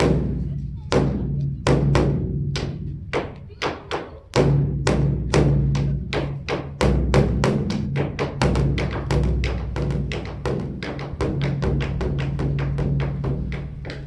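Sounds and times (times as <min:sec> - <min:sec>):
large drum beaten with sticks: 0:00.0 - 0:14.0.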